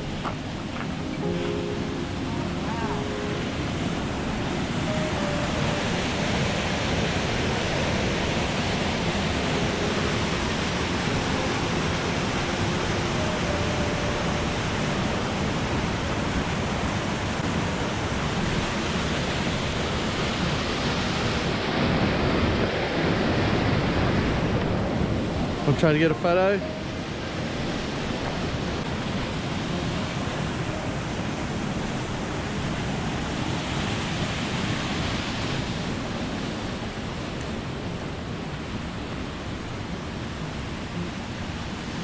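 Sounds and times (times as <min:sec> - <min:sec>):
waterfall and rushing creek: 0:00.0 - 0:42.0.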